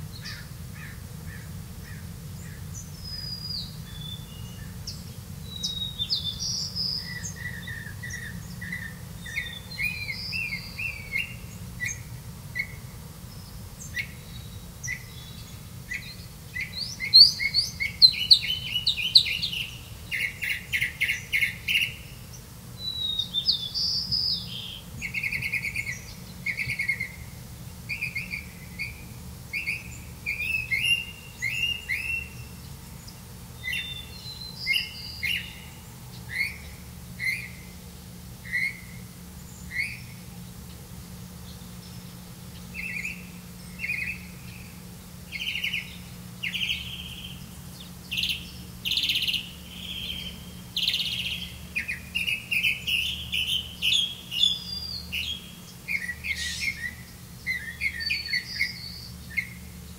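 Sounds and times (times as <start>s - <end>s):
low steady hum: 0.0s - 59.9s
bird chirping: 1.3s - 27.3s, 27.9s - 37.8s, 41.4s - 59.9s.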